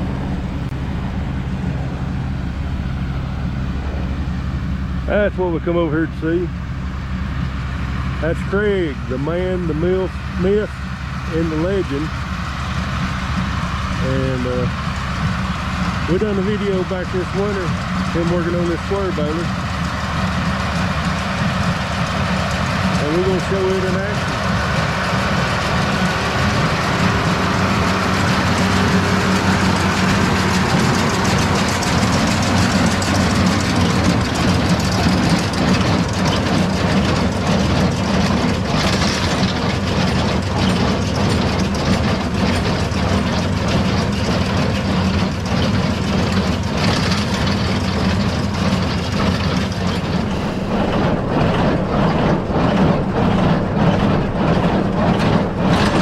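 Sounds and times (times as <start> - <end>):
tractor engine running: 0.0 - 56.0
baler rhythmic clacking: 6.6 - 44.4, 48.6 - 56.0.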